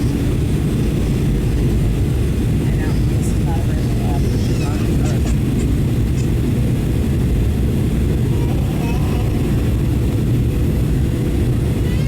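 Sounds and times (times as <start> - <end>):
airplane cabin engine roar: 0.0 - 12.0.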